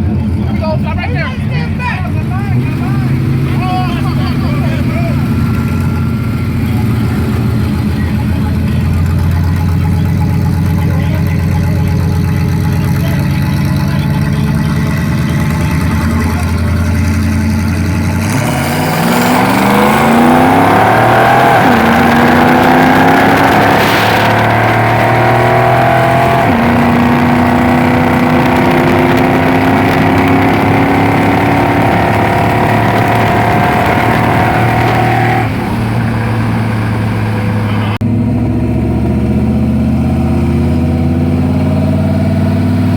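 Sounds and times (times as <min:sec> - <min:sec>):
car engines accelerating hard: 0:00.0 - 0:42.9
cars idling: 0:00.0 - 0:42.9.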